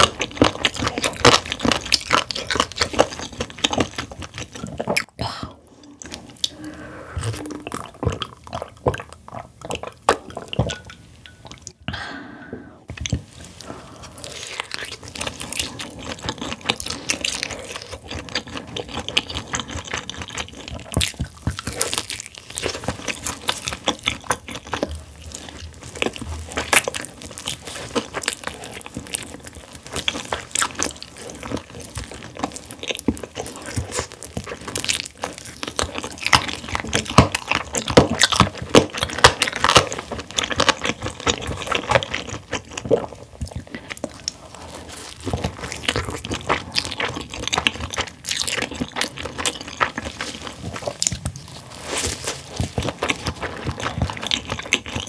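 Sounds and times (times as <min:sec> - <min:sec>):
person chewing food: 0:00.0 - 0:11.8, 0:12.8 - 0:55.0.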